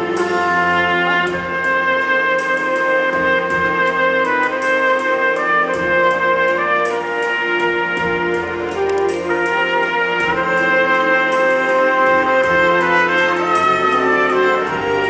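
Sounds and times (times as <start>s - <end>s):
solo trumpet melody: 0.0s - 15.0s.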